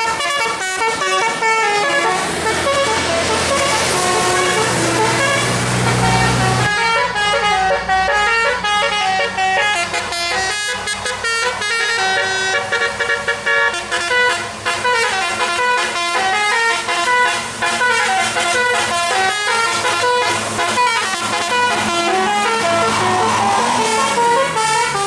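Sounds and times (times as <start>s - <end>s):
bus engine running: 0.0s - 25.0s
musical bus air horn tune: 0.0s - 25.0s.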